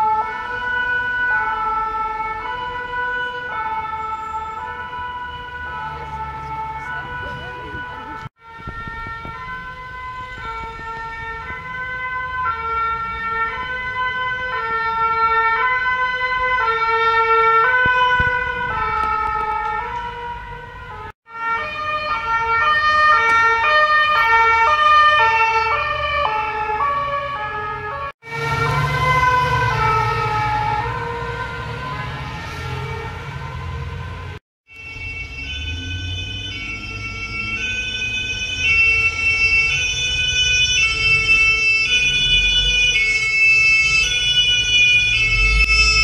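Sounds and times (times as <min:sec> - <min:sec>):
low engine and traffic rumble: 0:00.0 - 0:46.0
two-tone sirens passing: 0:00.0 - 0:46.0.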